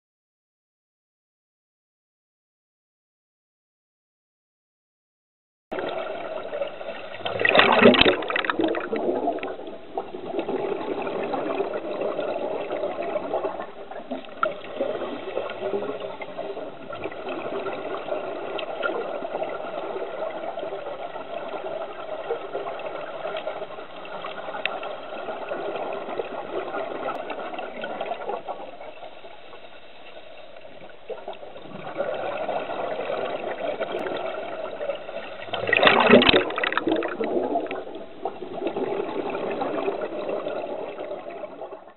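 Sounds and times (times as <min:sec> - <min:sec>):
regulator exhale bubbles: 0:05.7 - 0:41.9
underwater rushing bubbling water: 0:05.7 - 0:41.9.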